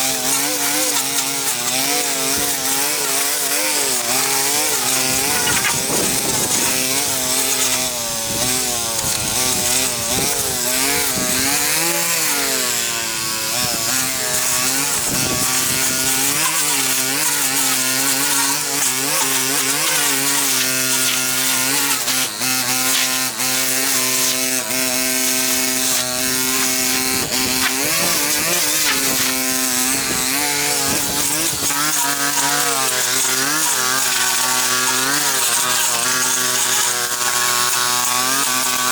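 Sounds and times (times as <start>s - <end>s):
hissing cutting noise: 0.0s - 38.9s
small petrol engine revving: 0.0s - 38.9s.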